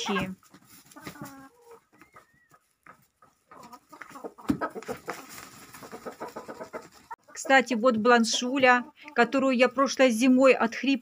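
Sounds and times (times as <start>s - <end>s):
hens clucking: 0.0s - 10.4s.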